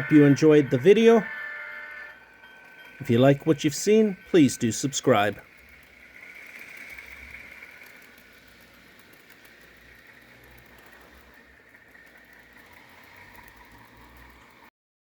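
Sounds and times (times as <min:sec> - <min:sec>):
faint diesel engine running: 0:00.0 - 0:14.7.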